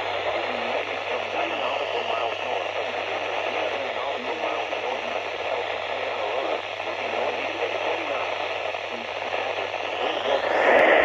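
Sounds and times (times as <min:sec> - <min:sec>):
faint voice through static: 0:00.0 - 0:11.0
radio static hiss: 0:00.0 - 0:11.0.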